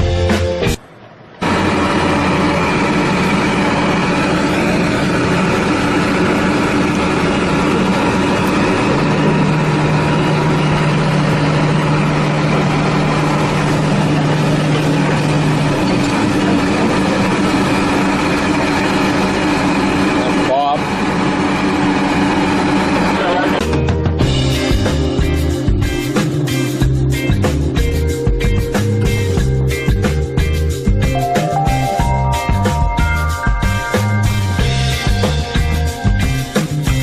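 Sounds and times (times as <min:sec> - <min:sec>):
heavy machine engine running: 0:00.0 - 0:37.0.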